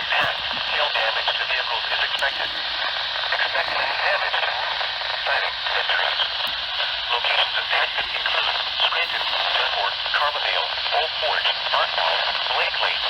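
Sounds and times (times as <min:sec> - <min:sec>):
faint voice over radio: 0:00.0 - 0:13.0
radio static hiss: 0:00.0 - 0:13.0.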